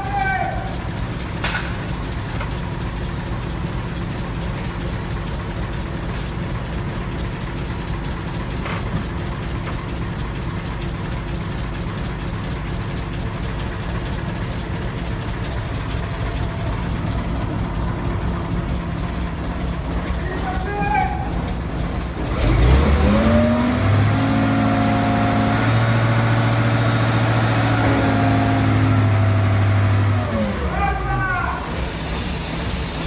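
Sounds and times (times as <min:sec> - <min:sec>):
heavy engine idling: 0:00.0 - 0:33.0.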